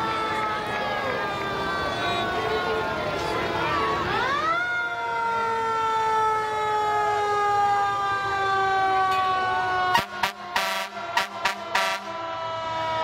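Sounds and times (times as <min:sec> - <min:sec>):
fire truck siren: 0:00.0 - 0:13.0.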